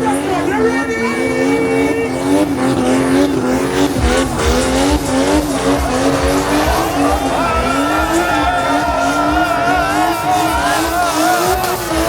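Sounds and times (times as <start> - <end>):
car engine at high revs: 0.0 - 12.0
tires squealing: 0.0 - 12.0.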